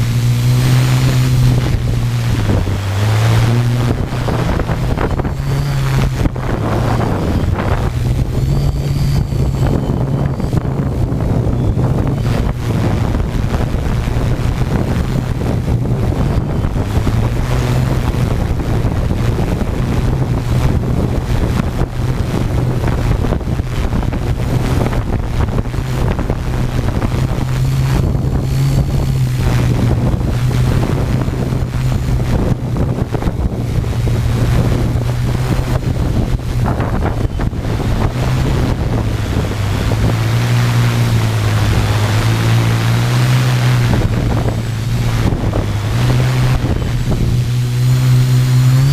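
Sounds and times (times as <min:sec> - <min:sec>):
drone propellers humming: 0:00.0 - 0:48.9
wind buffeting microphone: 0:00.0 - 0:48.9.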